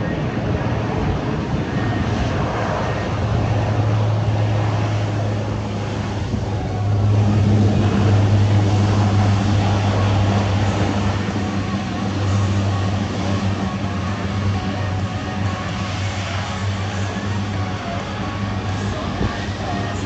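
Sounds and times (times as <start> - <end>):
propeller plane drone: 0.0 - 20.0.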